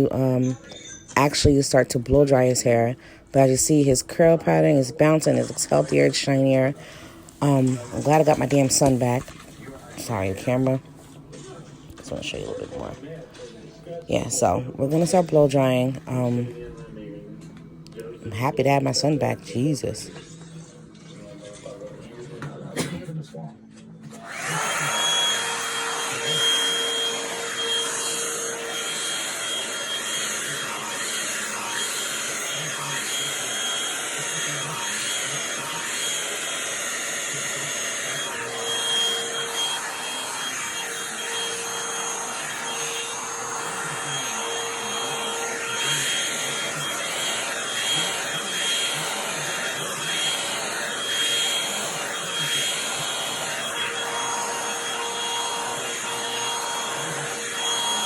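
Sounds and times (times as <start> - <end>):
hair dryer blowing air: 0.0 - 13.3, 14.0 - 17.2, 17.9 - 20.2, 24.0 - 58.0.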